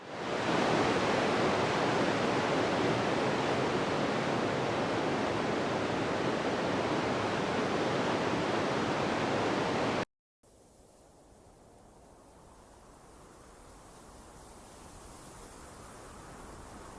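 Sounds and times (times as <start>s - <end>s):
rushing wind: 0.0s - 10.0s, 12.2s - 16.9s.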